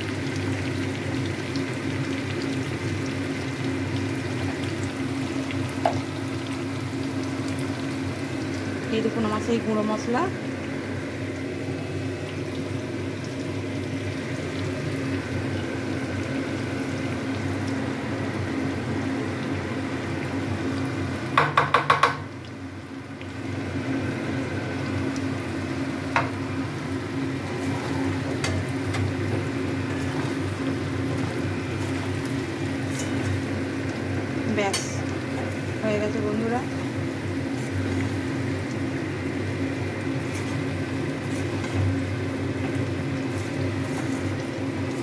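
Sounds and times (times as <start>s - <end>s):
food sizzling in hot oil: 0.0s - 45.0s.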